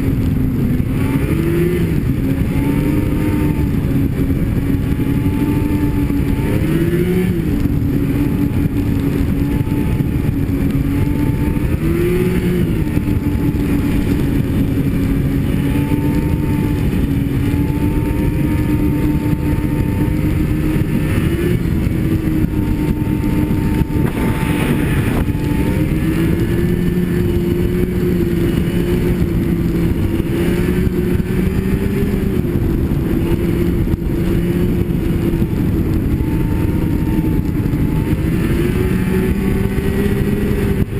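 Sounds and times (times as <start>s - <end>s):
low rushing noise: 0.0s - 40.9s
snowmobile engine running: 0.0s - 40.9s.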